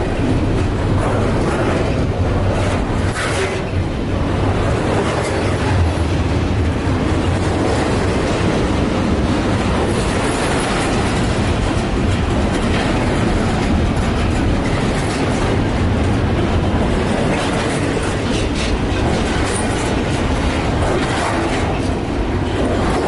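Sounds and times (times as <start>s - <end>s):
wheel-on-rail noise: 0.0s - 23.0s
wheels clacking over rail joints: 0.0s - 23.0s.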